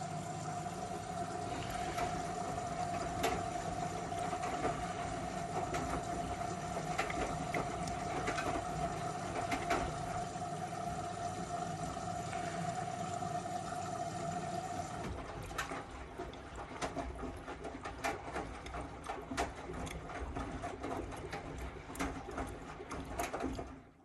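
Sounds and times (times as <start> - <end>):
washing machine motor whine: 0.0 - 24.0
water sloshing: 0.6 - 24.0.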